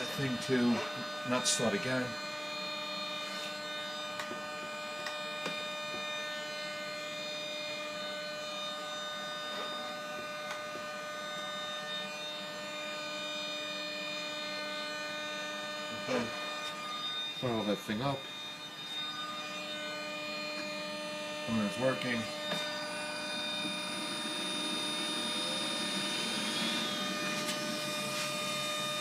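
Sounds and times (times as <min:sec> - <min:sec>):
steady electrical whine: 0:00.0 - 0:29.0.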